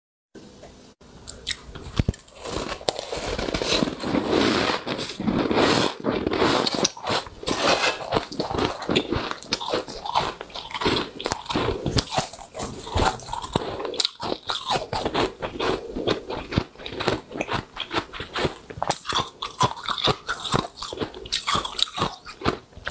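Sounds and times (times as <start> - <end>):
frost crunching: 1.5 - 22.9.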